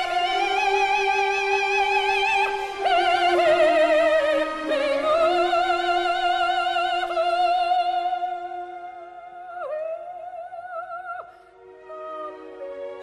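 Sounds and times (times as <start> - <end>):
orchestral accompaniment: 0.0 - 10.9, 11.5 - 13.0.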